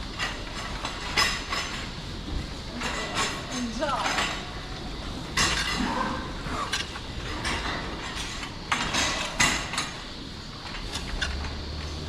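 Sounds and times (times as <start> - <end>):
rustling and clattering: 0.0 - 12.0.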